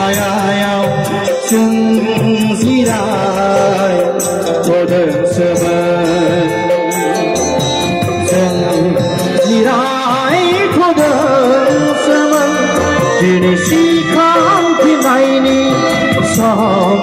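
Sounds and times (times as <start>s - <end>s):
instrumental accompaniment: 0.0s - 17.0s
percussive beat: 0.0s - 17.0s
person singing: 0.0s - 17.0s.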